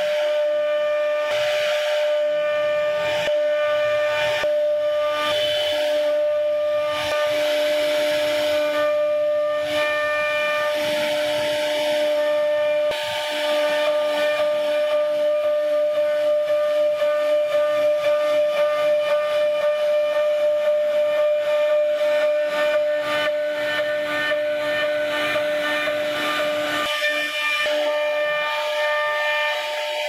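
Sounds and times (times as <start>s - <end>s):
router spindle whine: 0.0s - 30.0s.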